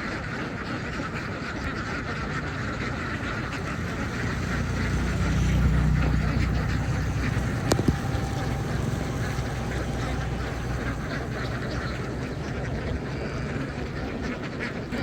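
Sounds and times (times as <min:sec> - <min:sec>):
ducks quacking: 0:00.0 - 0:15.0
low engine rumble: 0:00.6 - 0:15.0.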